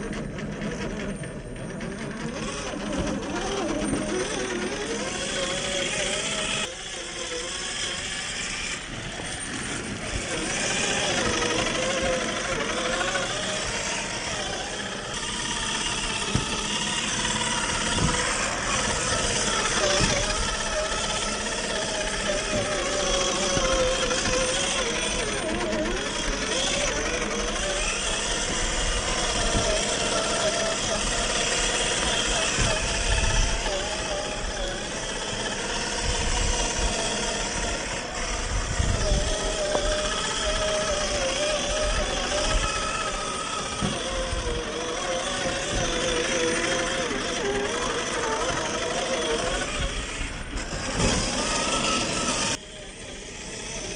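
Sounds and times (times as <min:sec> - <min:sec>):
steady noisy rumble: 0:00.0 - 0:53.9
toy car motor whining: 0:00.0 - 0:53.9.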